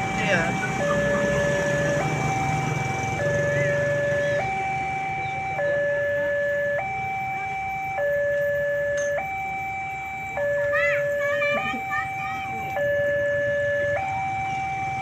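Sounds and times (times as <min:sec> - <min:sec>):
level crossing two-tone siren: 0:00.0 - 0:15.0.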